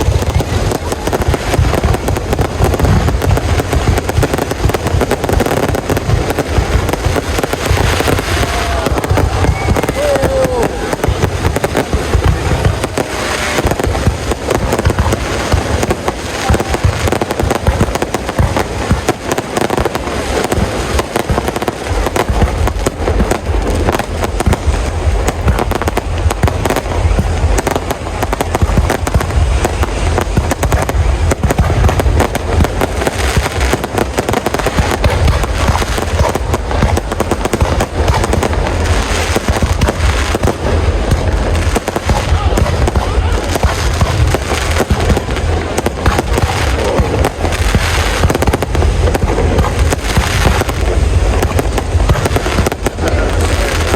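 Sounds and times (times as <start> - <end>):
deep fireworks booms: 0.0 - 53.9
fireworks bangs and crackles: 0.0 - 53.9.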